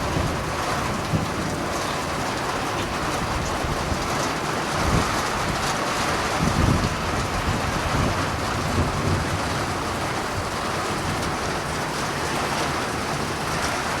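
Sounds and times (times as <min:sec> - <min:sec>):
steady rain pouring: 0:00.0 - 0:14.0.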